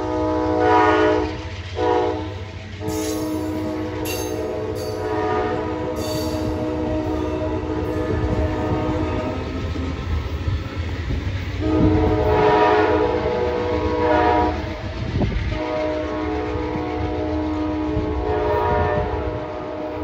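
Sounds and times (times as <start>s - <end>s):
train air horn: 0.0s - 10.3s, 11.5s - 20.0s
train cars clacking over rails: 0.0s - 20.0s.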